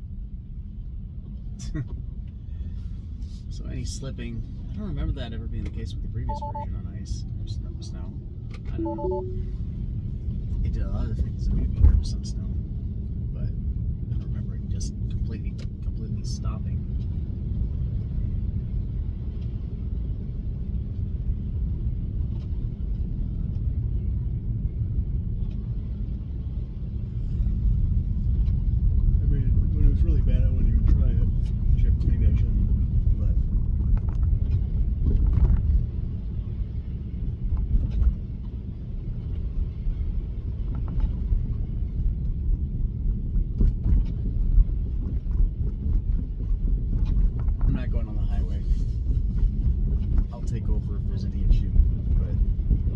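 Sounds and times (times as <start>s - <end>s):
tyre and road noise in car cabin: 10.1s - 52.9s.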